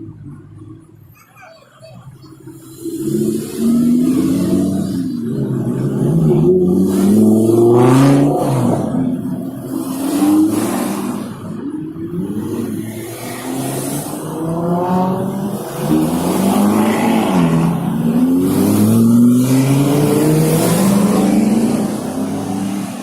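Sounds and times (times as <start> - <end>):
sports car engines revving: 2.0 - 23.0.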